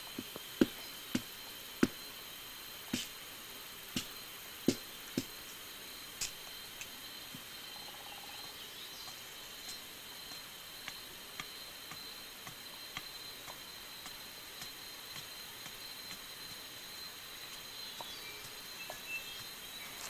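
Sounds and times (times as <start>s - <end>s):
high-pitched insect song: 0.0s - 20.0s.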